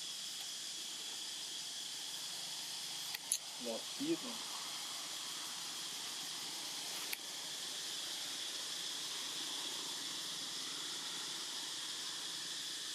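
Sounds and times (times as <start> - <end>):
high-pitched hiss: 0.0 - 12.9.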